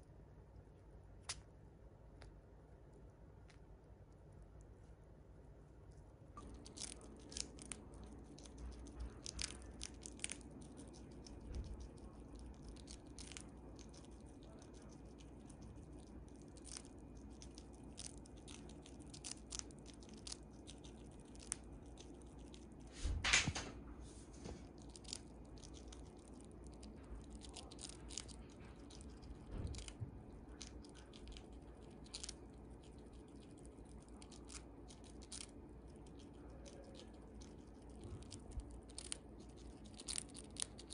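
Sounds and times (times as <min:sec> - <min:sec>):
chipmunk crunching a chip: 0:05.6 - 0:22.9, 0:24.6 - 0:40.9.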